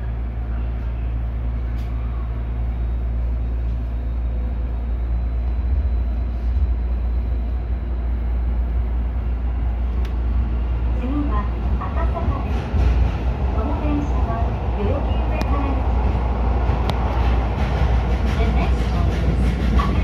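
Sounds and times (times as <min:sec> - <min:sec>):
train running rumble: 0:00.0 - 0:20.0.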